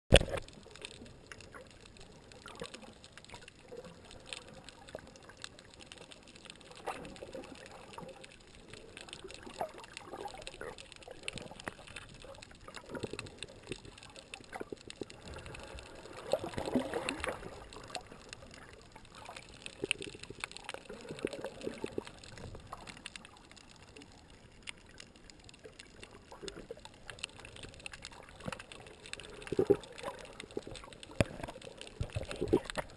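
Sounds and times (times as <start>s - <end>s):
small clicks and crackles: 0.1s - 32.9s
underwater sloshing and swirling: 0.1s - 32.9s.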